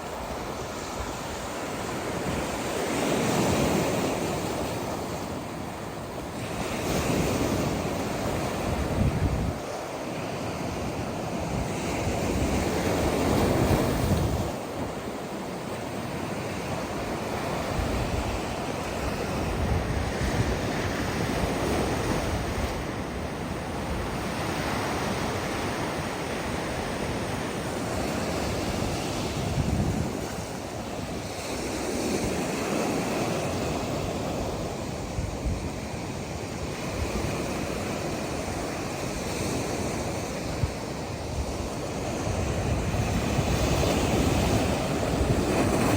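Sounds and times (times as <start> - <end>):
ocean surf breaking on beach: 0.0 - 45.9.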